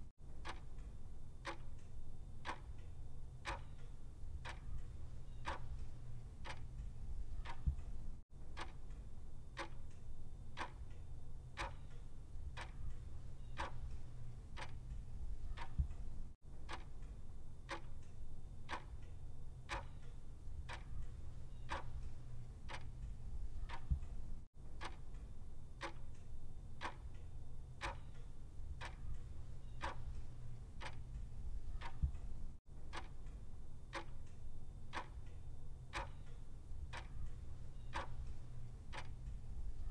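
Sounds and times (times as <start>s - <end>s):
low steady hum: 0.0s - 39.9s
clock ticking: 0.4s - 9.0s, 9.6s - 11.0s, 11.6s - 39.9s.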